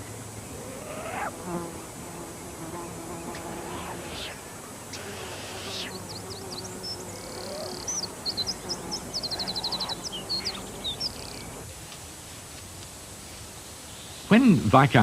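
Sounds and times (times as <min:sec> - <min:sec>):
songbird singing: 0:00.0 - 0:11.7, 0:13.2 - 0:14.7.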